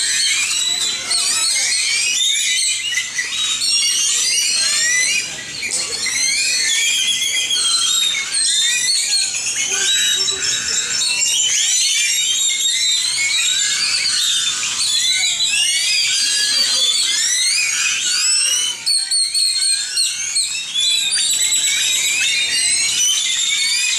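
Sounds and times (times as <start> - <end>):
birds chirping in chorus: 0.0 - 23.9.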